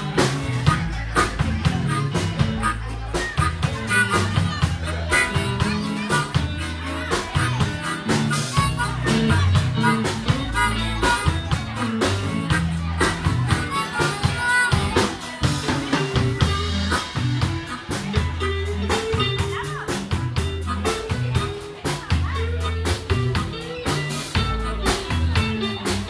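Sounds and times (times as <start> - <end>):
drum kit steady beat: 0.0 - 26.0
electric guitars: 0.0 - 26.0
harmonica wailing lead: 0.0 - 26.0.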